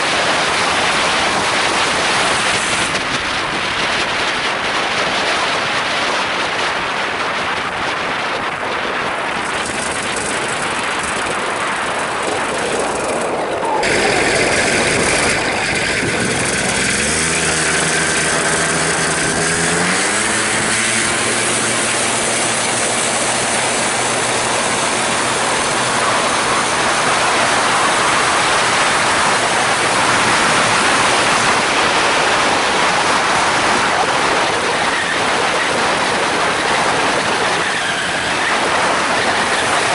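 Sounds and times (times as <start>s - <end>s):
two-stroke engine revving: 0.0s - 3.6s, 9.4s - 39.9s
wind rush on microphone: 0.0s - 39.9s.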